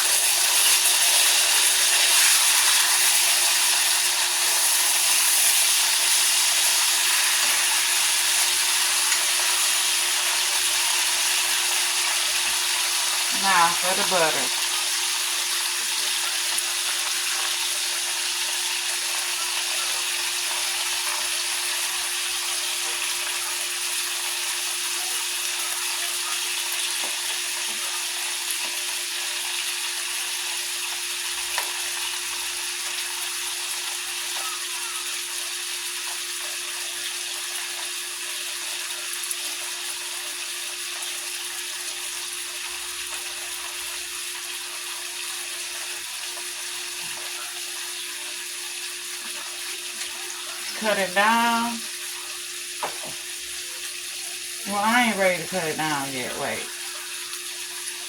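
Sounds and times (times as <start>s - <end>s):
steak sizzling in a pan: 0.0s - 58.0s.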